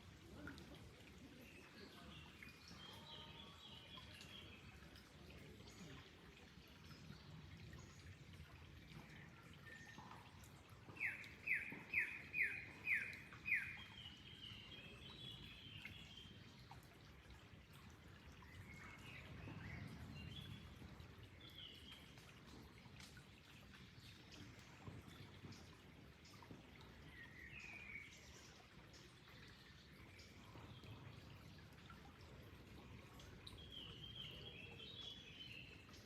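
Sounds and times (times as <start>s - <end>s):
trickling water: 0.0s - 36.0s.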